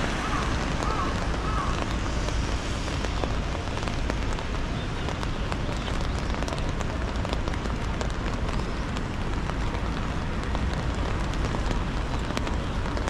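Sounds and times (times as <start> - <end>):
city traffic on wet street: 0.0 - 13.0
steady rain: 0.0 - 13.0.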